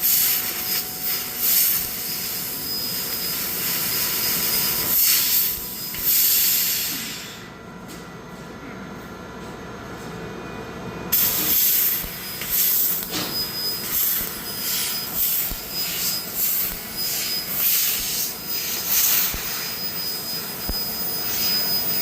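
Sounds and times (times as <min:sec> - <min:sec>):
laser cutter hissing: 0:00.0 - 0:07.5, 0:11.1 - 0:22.0
thin high whine: 0:00.0 - 0:07.6, 0:11.1 - 0:22.0.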